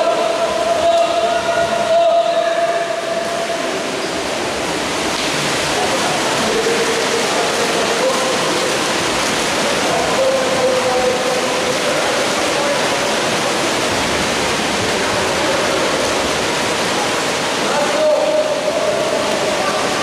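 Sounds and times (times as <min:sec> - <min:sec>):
crowd noise: 0:00.0 - 0:20.0
water splashing: 0:00.0 - 0:20.0.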